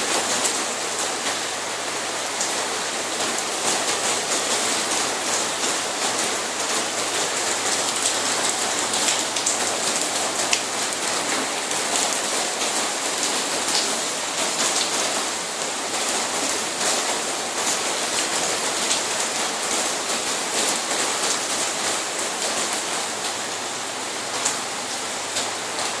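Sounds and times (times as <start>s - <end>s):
heavy rain on hard surfaces: 0.0s - 26.0s.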